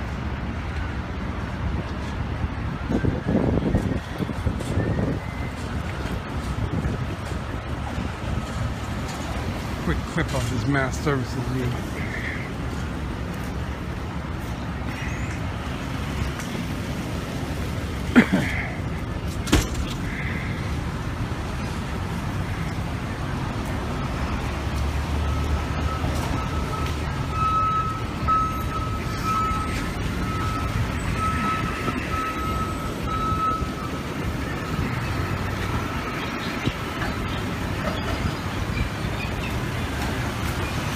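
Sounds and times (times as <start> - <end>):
street traffic rumble: 0.0 - 40.9.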